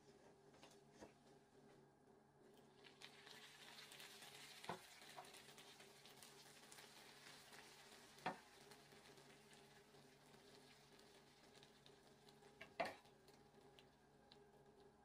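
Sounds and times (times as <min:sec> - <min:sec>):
syrup sizzling on hot pastry: 0:02.6 - 0:15.0.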